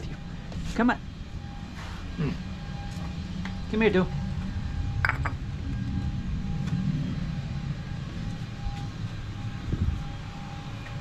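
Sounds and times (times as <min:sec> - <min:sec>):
faint high whine: 0:00.0 - 0:11.0
engine-powered equipment rumbling: 0:01.0 - 0:11.0.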